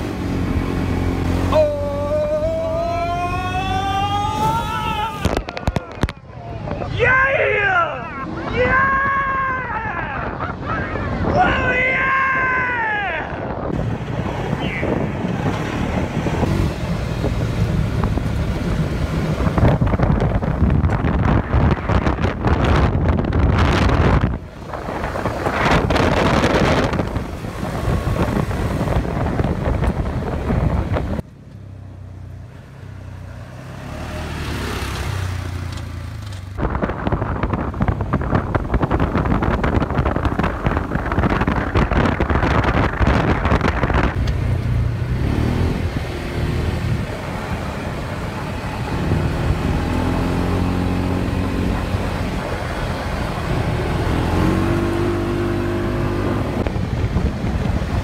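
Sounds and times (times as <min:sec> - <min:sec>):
road rumble: 0:00.0 - 0:58.0
wind buffeting microphone: 0:08.0 - 0:31.3, 0:34.4 - 0:58.0.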